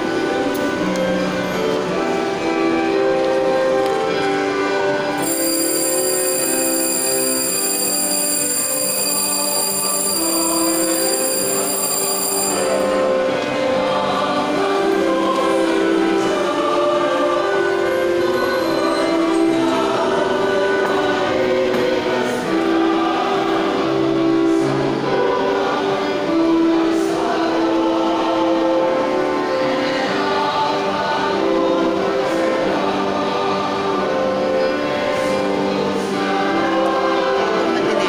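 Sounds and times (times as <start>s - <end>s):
church choir singing a hymn: 0.0s - 38.0s.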